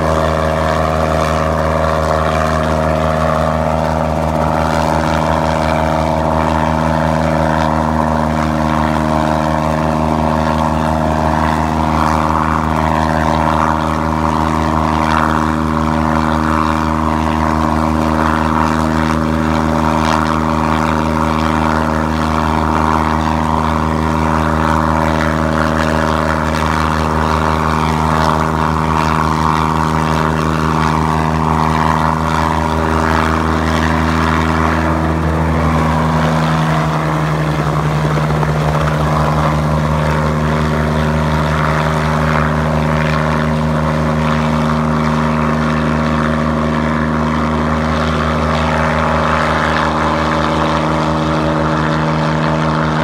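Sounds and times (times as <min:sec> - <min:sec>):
helicopter hovering: 0:00.0 - 0:53.0.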